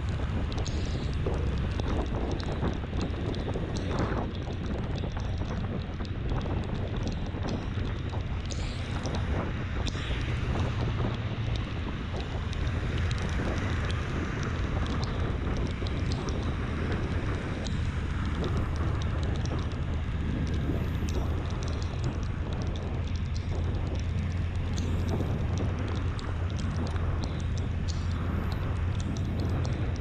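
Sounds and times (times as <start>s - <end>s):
wind noise on microphone: 0.0s - 30.0s.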